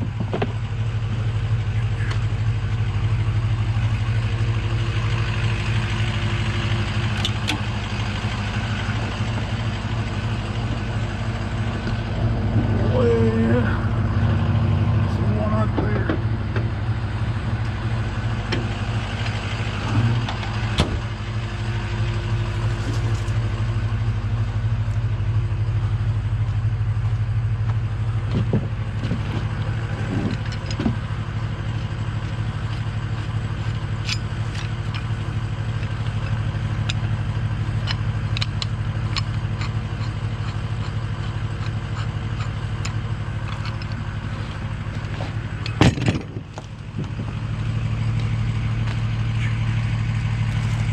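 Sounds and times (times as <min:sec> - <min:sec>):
truck engine idling: 0:00.0 - 0:50.9.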